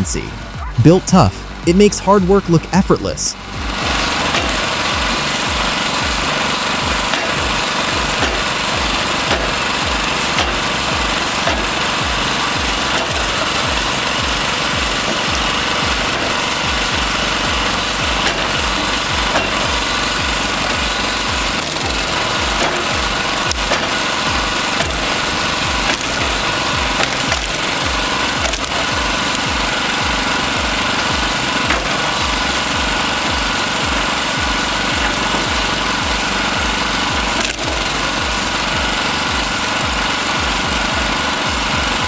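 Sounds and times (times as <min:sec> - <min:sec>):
small engine running: 0:00.0 - 0:42.0
wood splitting cracks: 0:03.6 - 0:42.0.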